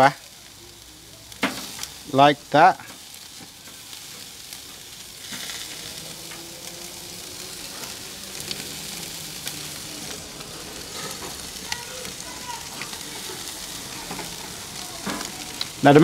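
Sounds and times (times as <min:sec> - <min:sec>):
chicken sizzling on grill: 0:00.0 - 0:16.0
sharp crackles: 0:00.0 - 0:16.0.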